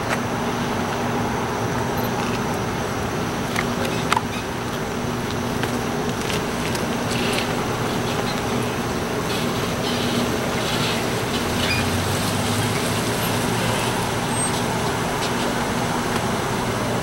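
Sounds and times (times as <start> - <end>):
car engines running: 0.0 - 17.0
car pulling up: 0.0 - 17.0.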